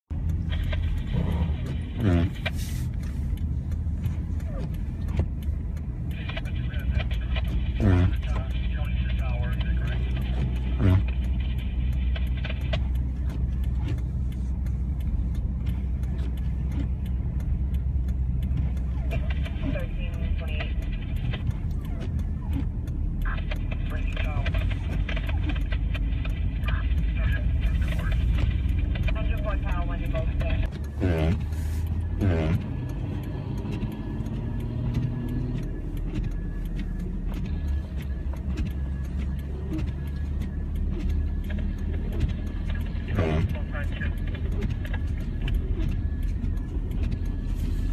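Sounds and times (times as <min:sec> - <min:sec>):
car road and engine rumble: 0:00.0 - 0:47.9
faint irregular clicks: 0:00.1 - 0:47.9.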